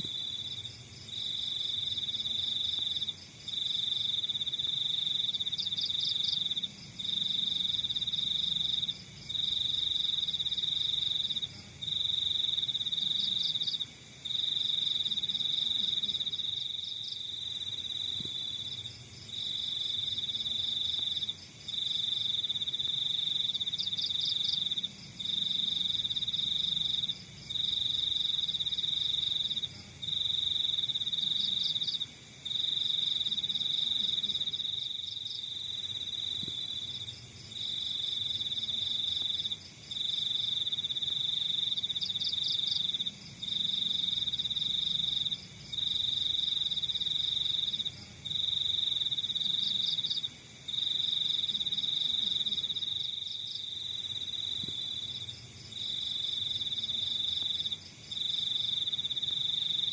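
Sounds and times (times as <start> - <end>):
cricket pulsed chirps: 0.0 - 59.9
cricket trilling: 0.0 - 59.9.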